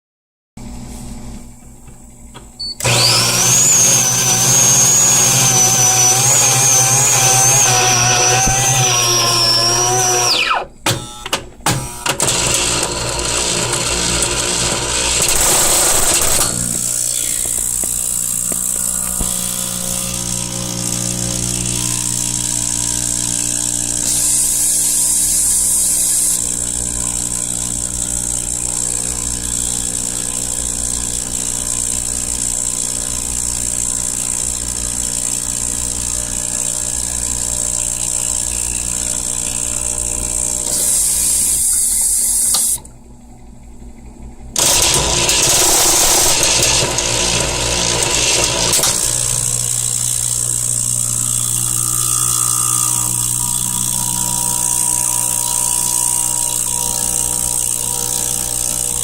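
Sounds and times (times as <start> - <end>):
coffee machine humming: 0.6 - 59.0
coffee machine whirring: 0.6 - 59.0
rapid mechanical clicking: 2.8 - 42.9, 44.5 - 51.8.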